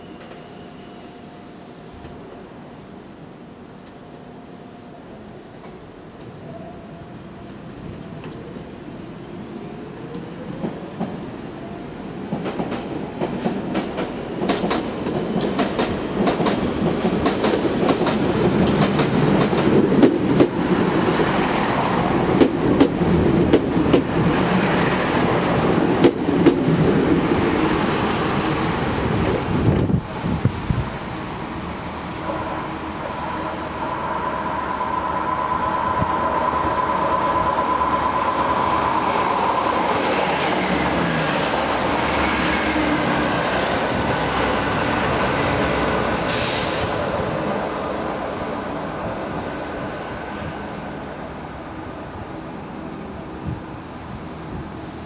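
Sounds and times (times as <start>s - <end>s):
diesel train running past: 0.0s - 55.0s
held tone from standing trains: 0.0s - 55.0s.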